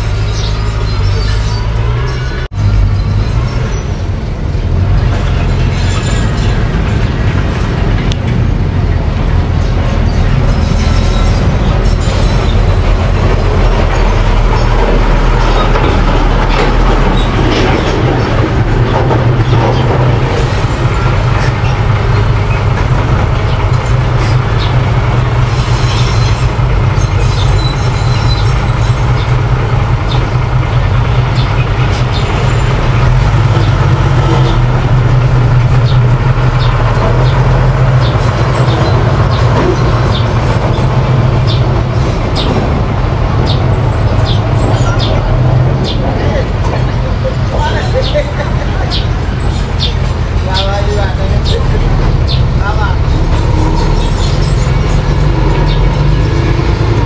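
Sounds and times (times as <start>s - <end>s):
bulldozer diesel engine running: 0.0s - 57.0s
bulldozer tracks clanking: 0.0s - 57.0s.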